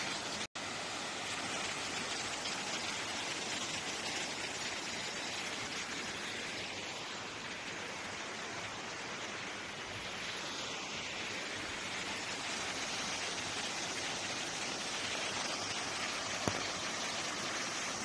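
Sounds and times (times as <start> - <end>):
rushing hiss of water: 0.0 - 18.0.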